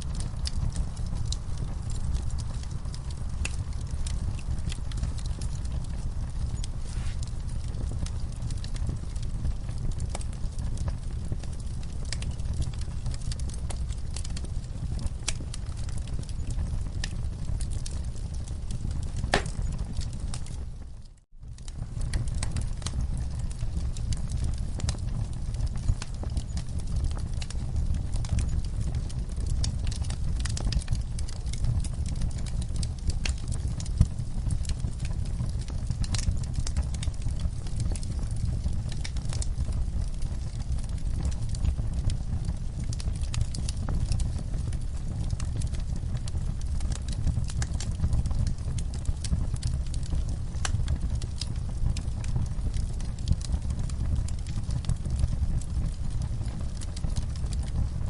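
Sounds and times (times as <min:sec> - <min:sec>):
campfire crackles and pops: 0:00.0 - 0:58.0
low rumble of flame: 0:00.0 - 0:58.0.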